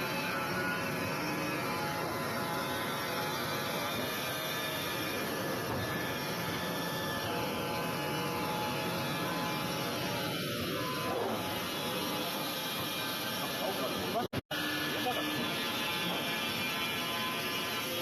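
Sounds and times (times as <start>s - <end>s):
band sawmill running: 0.0s - 18.0s.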